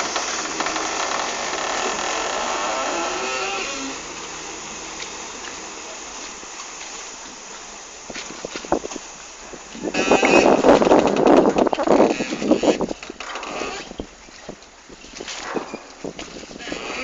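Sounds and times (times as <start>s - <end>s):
boat engine running: 0.0s - 17.0s
rushing wind and water: 0.0s - 17.0s.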